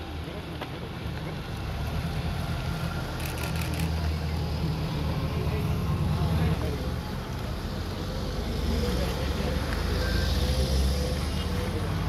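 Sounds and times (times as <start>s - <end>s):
vehicles driving past: 0.0s - 12.0s.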